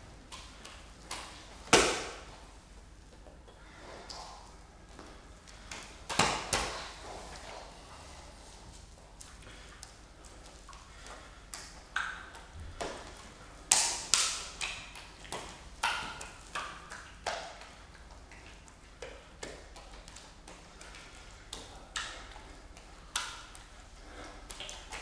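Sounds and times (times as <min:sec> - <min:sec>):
wet hearts slapping into hands: 0:00.3 - 0:02.4, 0:05.0 - 0:07.5, 0:09.2 - 0:25.0.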